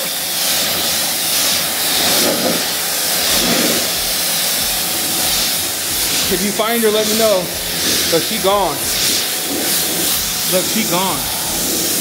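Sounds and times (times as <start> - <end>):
pressure washer spraying water: 0.0 - 12.0.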